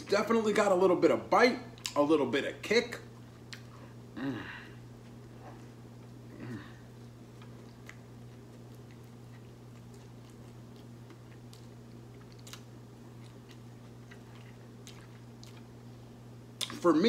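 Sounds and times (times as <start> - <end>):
low electrical hum: 0.0 - 17.0
man chewing food: 3.0 - 16.8.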